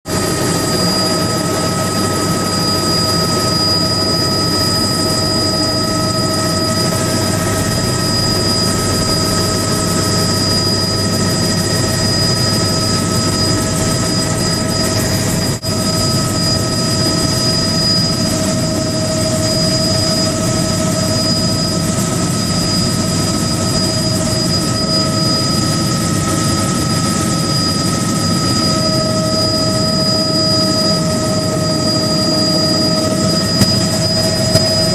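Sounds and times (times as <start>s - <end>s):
helicopter engine and rotor: 0.1s - 34.9s
high whine: 0.1s - 34.9s.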